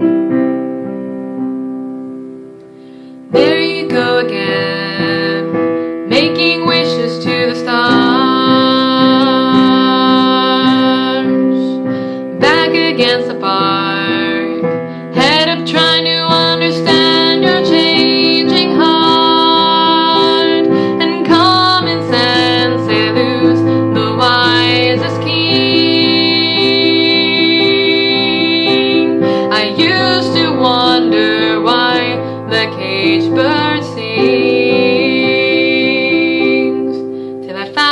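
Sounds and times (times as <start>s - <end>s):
piano chords: 0.0s - 37.9s
woman singing: 3.3s - 37.9s.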